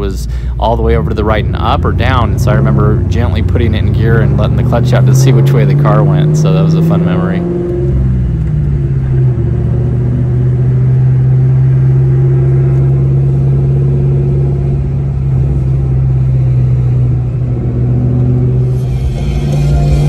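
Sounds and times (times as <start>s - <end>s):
car engine drone from cabin: 0.0s - 20.0s.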